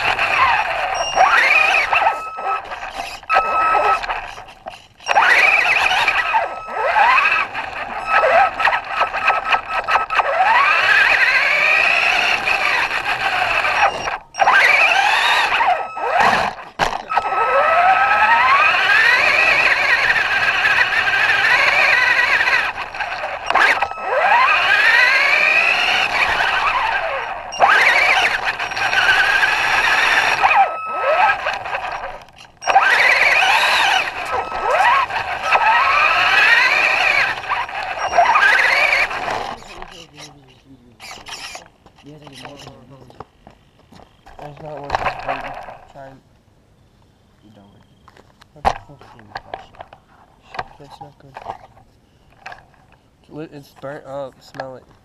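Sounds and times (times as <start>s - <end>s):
electric motor whining: 0.0s - 43.0s, 44.3s - 46.2s.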